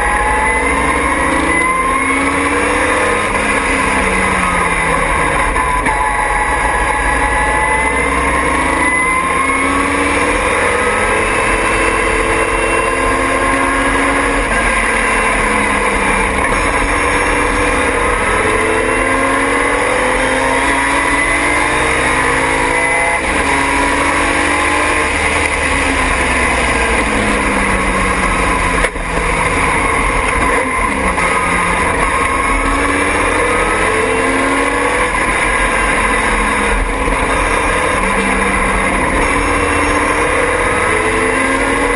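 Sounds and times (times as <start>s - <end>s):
race car engine revving: 0.0s - 41.9s
wind and road noise: 0.0s - 41.9s.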